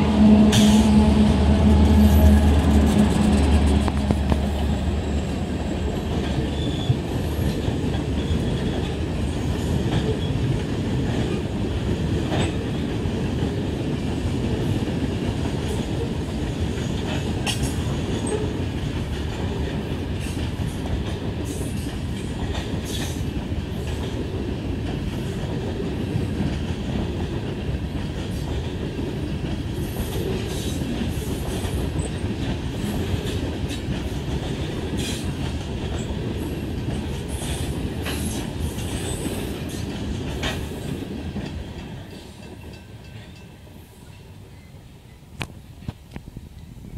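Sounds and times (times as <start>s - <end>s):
train wheels rumbling on rails: 0.0s - 46.9s
clickety-clack over rail joints: 0.2s - 46.7s.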